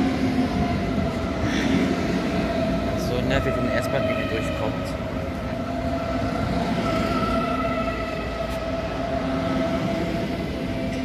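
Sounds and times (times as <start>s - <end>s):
electric train drive whine: 0.0s - 11.0s
wheels rumbling on rails: 0.0s - 11.0s.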